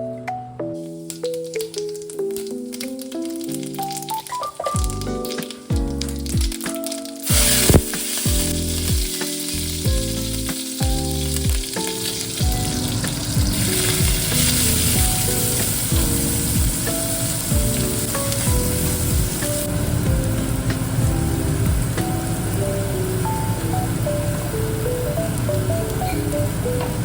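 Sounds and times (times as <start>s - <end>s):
background music with soft beat: 0.0s - 27.0s
food sizzling in a pan: 0.8s - 27.0s.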